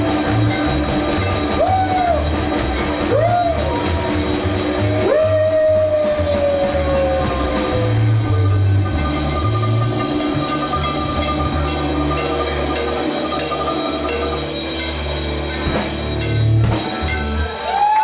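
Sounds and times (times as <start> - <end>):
lead instrument sliding notes: 0.0 - 17.7
rockabilly band playing: 0.0 - 18.0.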